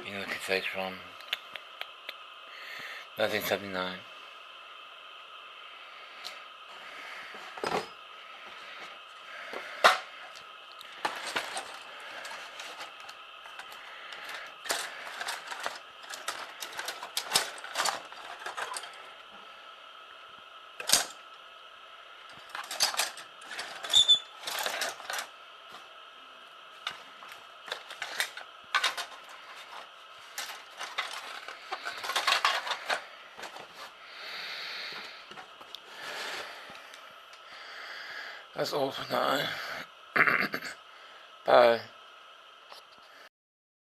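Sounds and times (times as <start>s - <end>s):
faint high hum: 0.0s - 43.3s.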